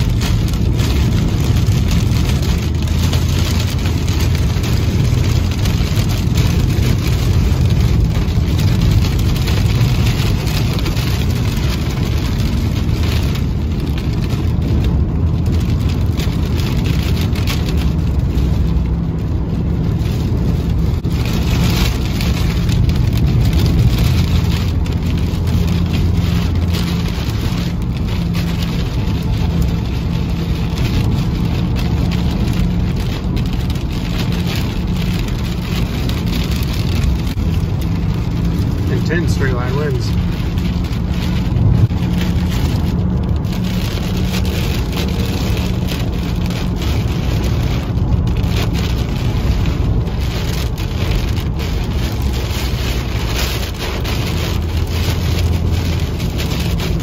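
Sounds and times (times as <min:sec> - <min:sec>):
rain pelting a car: 0:00.0 - 0:57.0
road noise rumble: 0:00.0 - 0:57.0.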